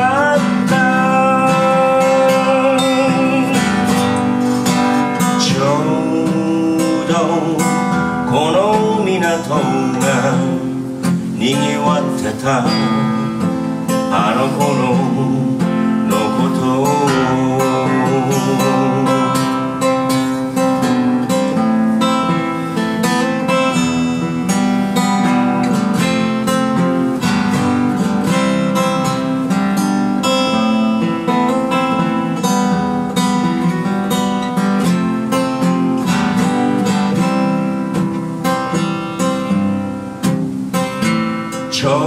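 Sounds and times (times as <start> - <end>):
acoustic guitar strumming: 0.0 - 42.0.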